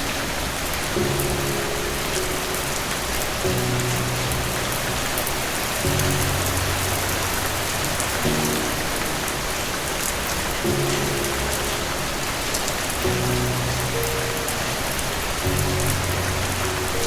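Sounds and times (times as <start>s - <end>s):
rain pattering: 0.0s - 17.0s
soft low music chords: 0.5s - 17.0s.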